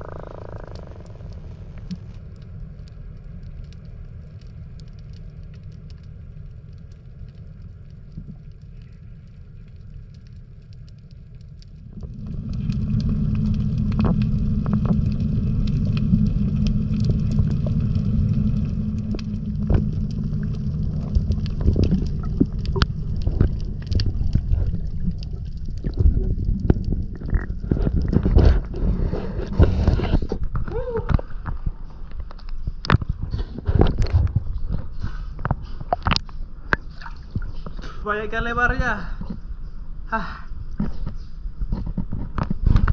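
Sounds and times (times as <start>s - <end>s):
sharp clicks and crackles: 0.0s - 38.0s
ship engine drone underwater: 0.0s - 38.0s.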